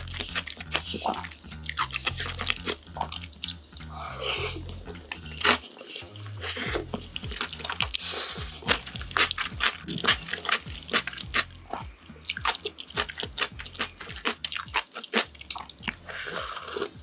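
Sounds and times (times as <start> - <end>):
noodle slurp: 0.0 - 17.0
wet chewing with mouth clicks: 0.0 - 17.0.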